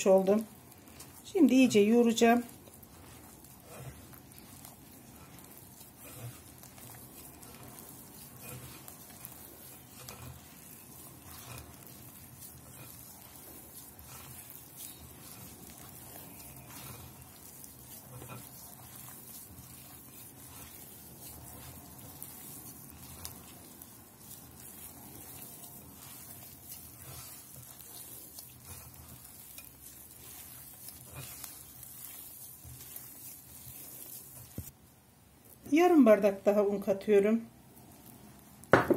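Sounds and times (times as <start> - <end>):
dough squelching in bowl: 0.0 - 38.9.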